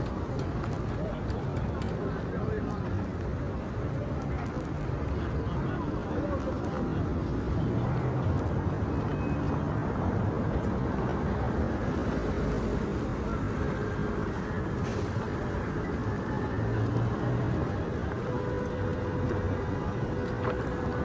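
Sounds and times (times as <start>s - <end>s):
vehicle engines in slow traffic: 0.0s - 21.0s.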